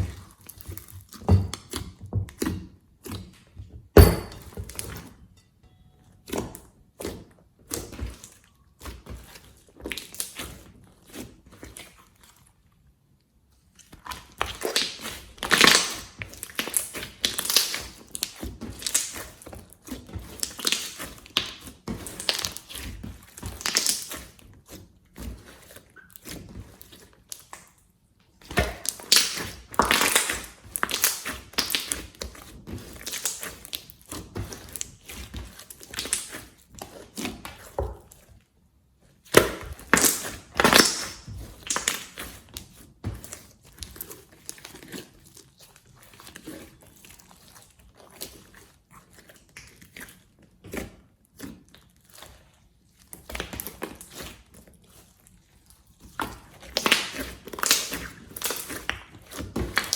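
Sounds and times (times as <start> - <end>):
slime squishing: 0.0 - 3.6, 6.2 - 12.8, 13.7 - 38.5, 39.1 - 59.9.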